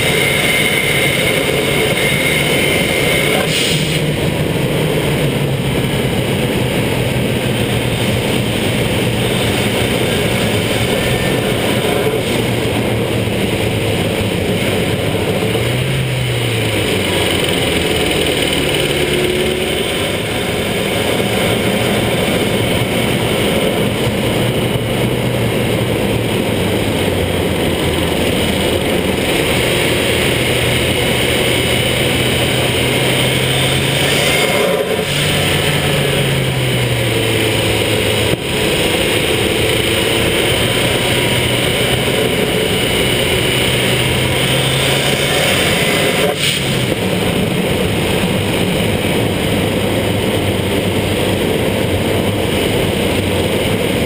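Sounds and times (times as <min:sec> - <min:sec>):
car engine pulling: 0:00.0 - 0:54.0
tyres on wet road: 0:00.0 - 0:54.0
wind noise: 0:00.0 - 0:54.0.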